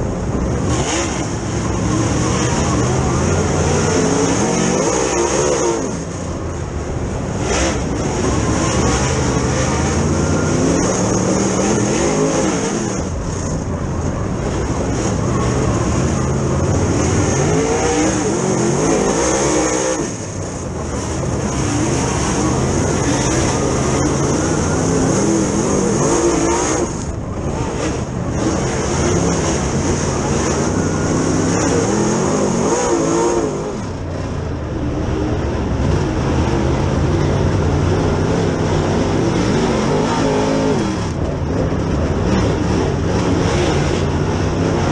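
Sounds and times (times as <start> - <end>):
other race cars passing: 0.0 - 44.9
race car engine revving: 0.0 - 44.9.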